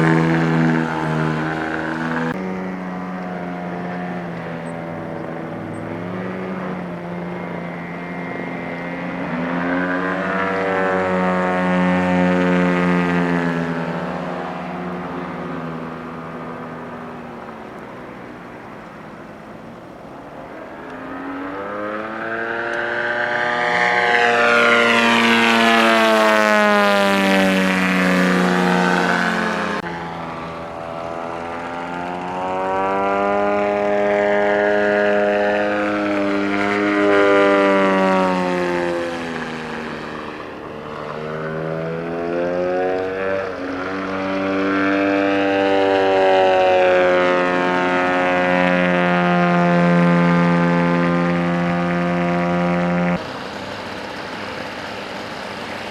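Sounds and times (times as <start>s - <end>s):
model airplane engine: 0.0s - 55.9s.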